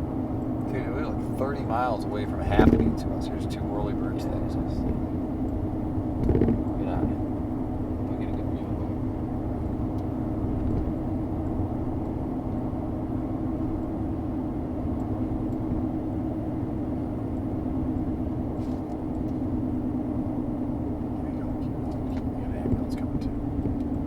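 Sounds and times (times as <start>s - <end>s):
car interior road and engine noise: 0.0s - 24.0s.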